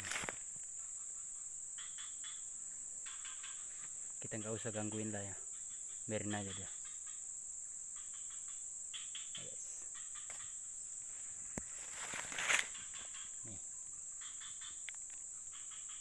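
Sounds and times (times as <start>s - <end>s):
insect chirps: 0.0s - 16.0s
insects droning: 0.0s - 16.0s
rustle: 0.0s - 16.0s.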